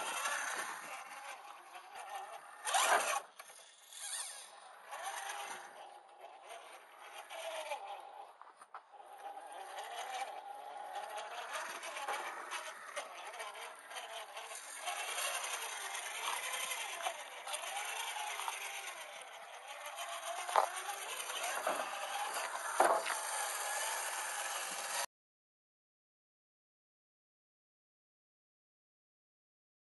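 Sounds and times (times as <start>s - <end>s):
electric motor whining: 0.0s - 25.1s
tyres and chassis scraping over rock: 0.0s - 25.1s.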